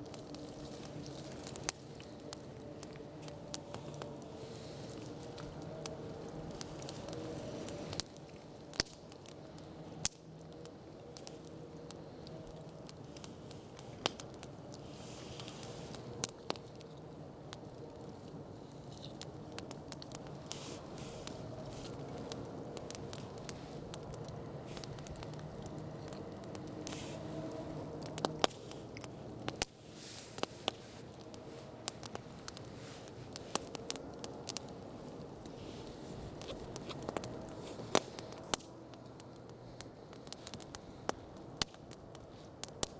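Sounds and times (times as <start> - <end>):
sharp pops and snaps: 0.0 - 17.9, 18.7 - 42.9
campfire crackling: 0.0 - 42.9
hiss of burning: 0.0 - 42.9.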